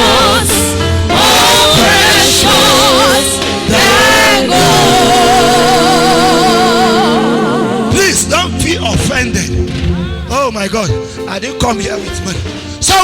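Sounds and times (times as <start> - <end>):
low accompaniment: 0.0 - 13.0
voices singing gospel song: 0.0 - 13.0.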